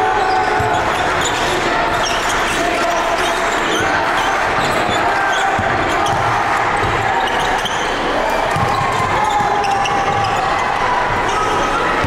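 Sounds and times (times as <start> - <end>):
crowd talking: 0.0 - 12.0.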